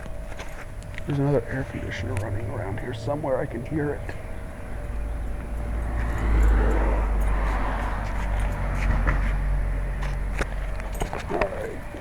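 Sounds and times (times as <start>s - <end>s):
vehicle passing by: 1.1s - 12.0s.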